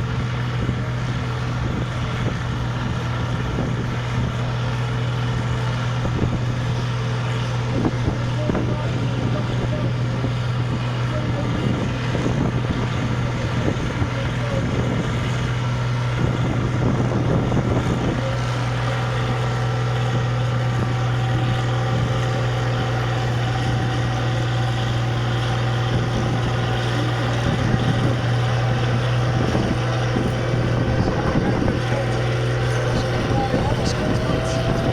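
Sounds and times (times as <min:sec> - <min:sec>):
tractor diesel engine running hard: 0:00.0 - 0:34.9.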